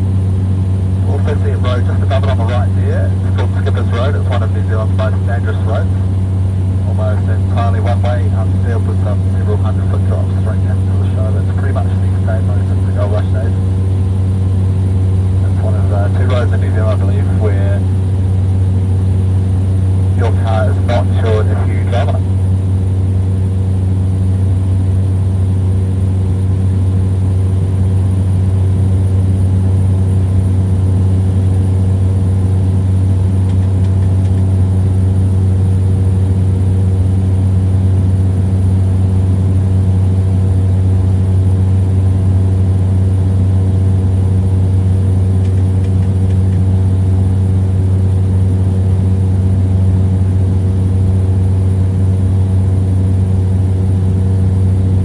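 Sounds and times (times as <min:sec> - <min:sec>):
small plane engine droning: 0:00.0 - 0:55.0.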